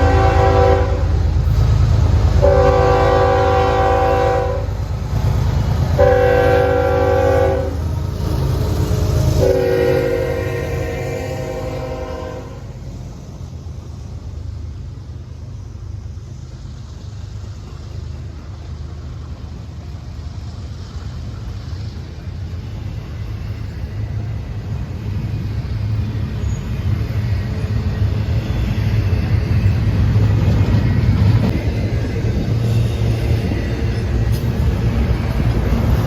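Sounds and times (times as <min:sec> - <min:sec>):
diesel locomotive engine rumble: 0:00.0 - 0:36.0.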